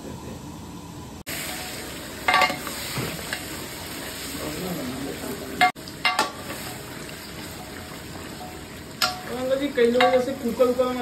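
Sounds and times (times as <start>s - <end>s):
meat sizzling in a pot: 1.2s - 11.0s.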